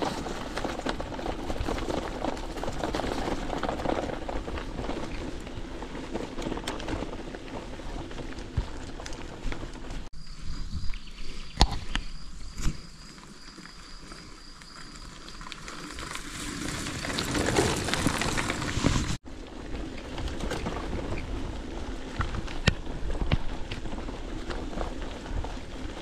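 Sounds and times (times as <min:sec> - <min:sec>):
bike clicks and rattles: 0:00.0 - 0:10.1, 0:14.8 - 0:26.0
bicycle tyres rolling: 0:00.0 - 0:26.0.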